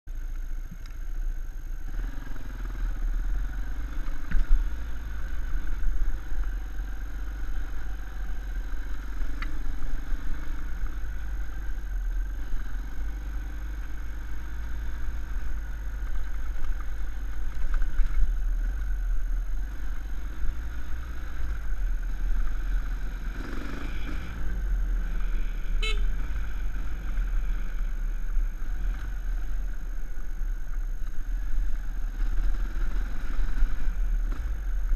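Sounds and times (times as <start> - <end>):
dirt bike engine running: 0.1 - 34.9.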